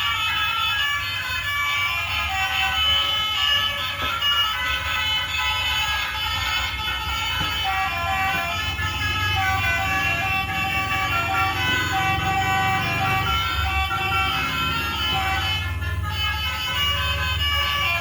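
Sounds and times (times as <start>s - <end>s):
low engine rumble: 0.0s - 18.0s
multi-tone bus horn playing a tune: 0.0s - 18.0s.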